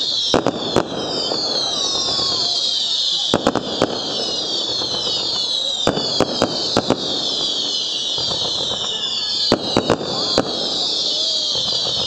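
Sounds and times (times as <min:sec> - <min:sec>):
firecracker bangs: 0:00.0 - 0:12.0.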